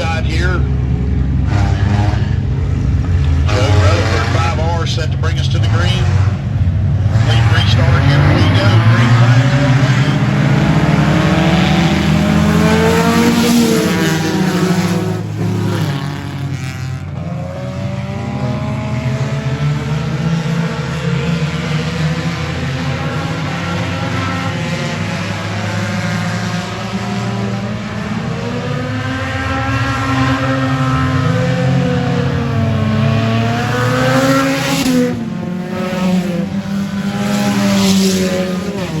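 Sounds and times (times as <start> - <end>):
race car engines revving and passing: 0.0 - 39.0.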